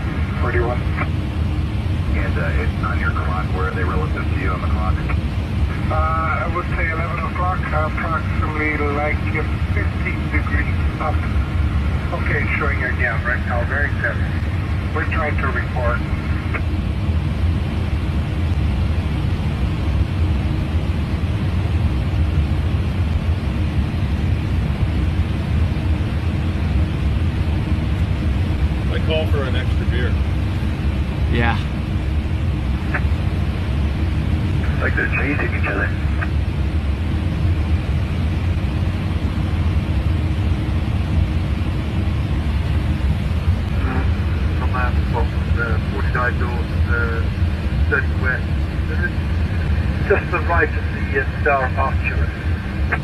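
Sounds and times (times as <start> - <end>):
light aircraft engine drone: 0.0 - 53.0.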